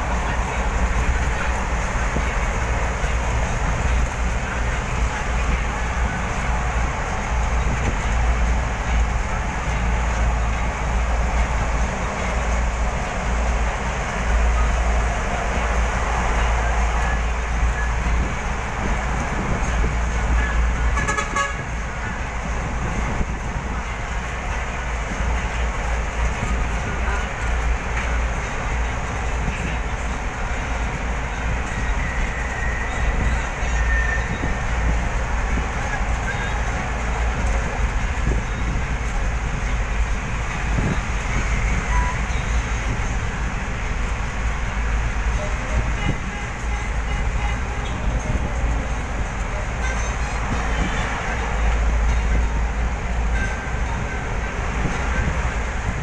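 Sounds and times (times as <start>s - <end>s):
road noise: 0.0s - 56.0s
tyre and wind noise: 0.0s - 56.0s
vehicle engine rumble: 0.0s - 56.0s.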